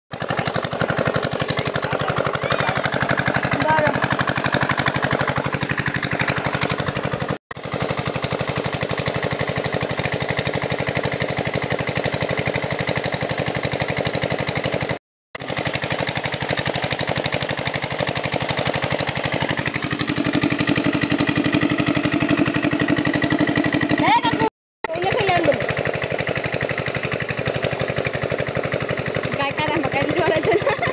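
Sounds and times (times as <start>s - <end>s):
small pump engine running: 0.1s - 30.9s.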